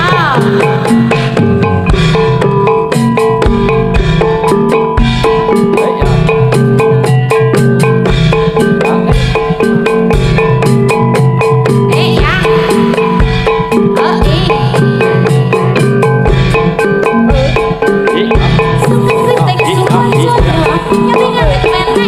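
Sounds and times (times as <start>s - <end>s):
rapid hand-drum strokes: 0.0s - 22.0s
ringing metallophones: 0.0s - 22.0s.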